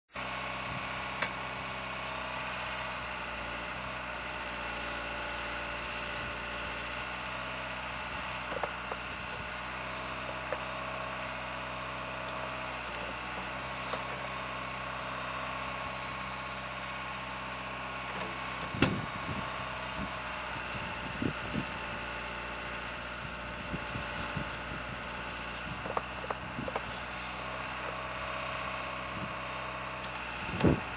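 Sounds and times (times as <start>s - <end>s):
diesel engine running: 0.2s - 30.9s.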